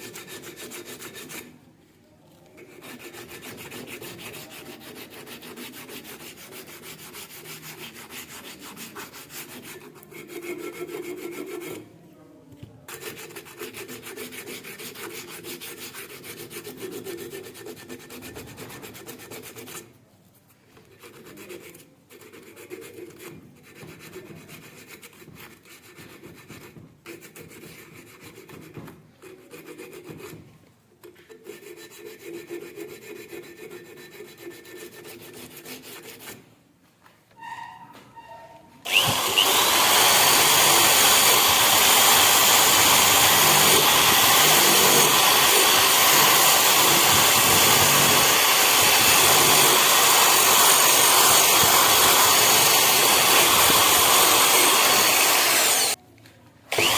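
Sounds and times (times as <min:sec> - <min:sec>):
hand rasp on rusted steel: 0:00.0 - 0:01.6, 0:02.6 - 0:11.9, 0:12.9 - 0:19.9, 0:20.9 - 0:30.4, 0:31.1 - 0:36.4, 0:38.9 - 0:56.0.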